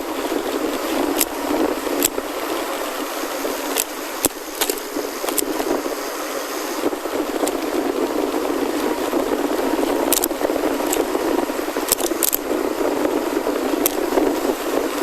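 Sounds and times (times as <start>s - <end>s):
bike rattling clicks: 0.0s - 6.0s, 6.8s - 15.0s
bike tyres rumbling on gravel: 0.0s - 15.0s.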